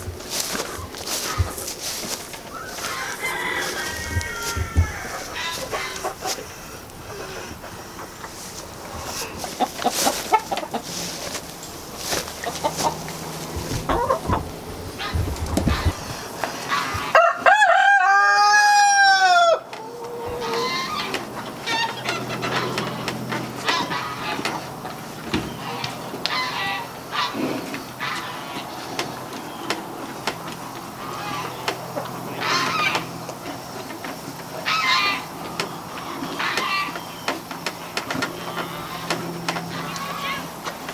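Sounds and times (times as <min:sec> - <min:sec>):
chickens clucking: 0:00.0 - 0:40.9
poultry calling: 0:00.0 - 0:40.9.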